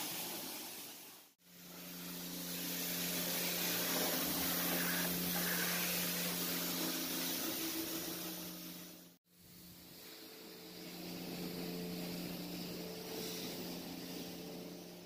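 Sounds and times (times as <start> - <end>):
pressure washer spray hiss: 0.0 - 15.0.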